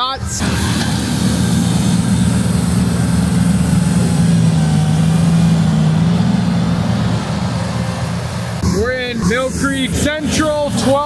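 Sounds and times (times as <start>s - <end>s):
snowblower rushing: 0.0s - 11.0s
tractor diesel engine hum: 0.0s - 11.0s.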